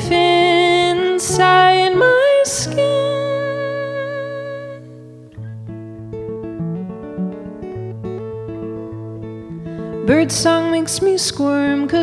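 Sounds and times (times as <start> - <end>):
acoustic guitar picking chords: 0.0 - 12.0.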